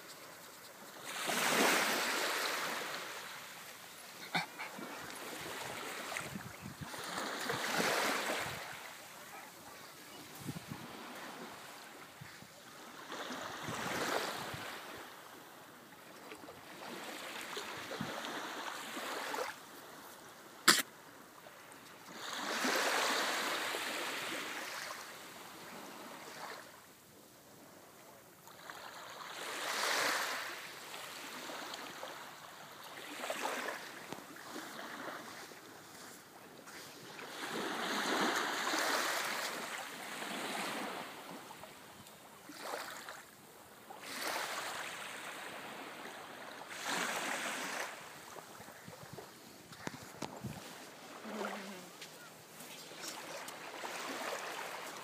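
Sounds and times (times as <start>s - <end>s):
waves washing on sandy beach: 0.0s - 55.0s.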